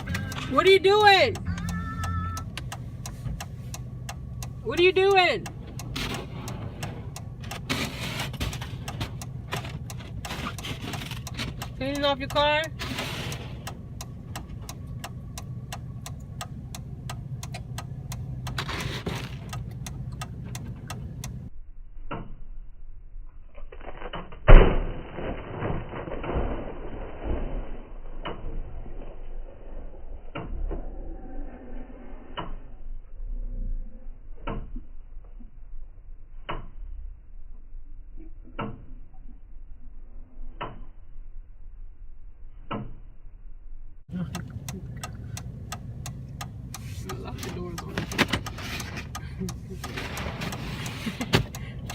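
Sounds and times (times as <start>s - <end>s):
low car hum: 0.0s - 51.9s.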